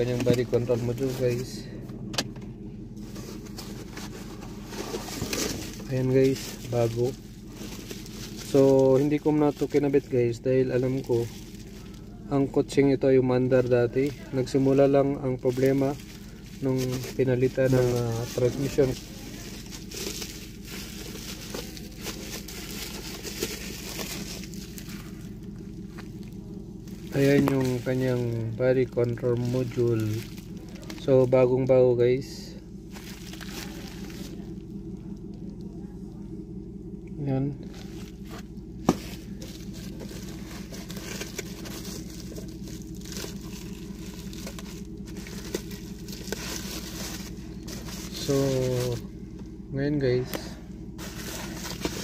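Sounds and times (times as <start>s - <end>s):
rustling and crinkling: 0.0s - 31.5s, 32.8s - 36.3s, 37.6s - 49.6s, 50.2s - 52.0s
steady low hum: 0.0s - 52.0s.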